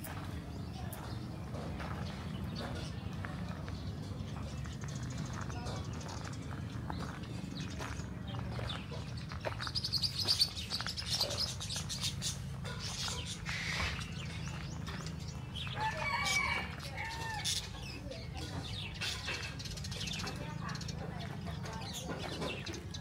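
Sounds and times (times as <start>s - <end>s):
birds chirping and squawking: 0.0s - 23.0s.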